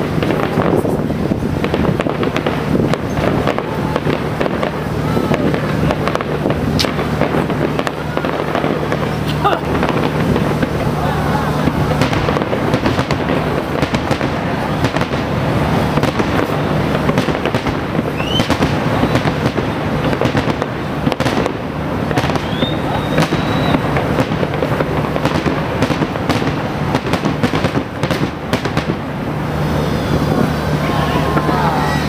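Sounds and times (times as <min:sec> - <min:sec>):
firework rising whistle: 0:00.0 - 0:25.2, 0:25.9 - 0:32.0
fireworks bangs and crackles: 0:00.0 - 0:32.0.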